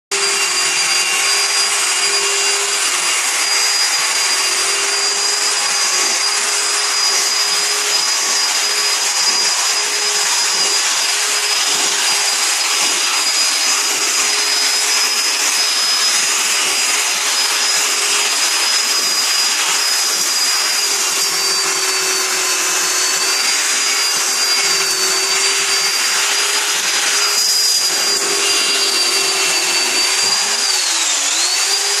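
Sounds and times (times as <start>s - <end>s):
rotary brush machine motor whine: 0.1s - 32.0s.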